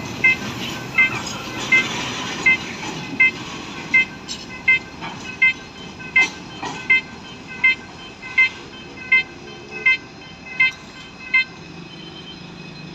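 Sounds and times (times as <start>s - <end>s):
level crossing double-tone beeps: 0.2s - 12.9s.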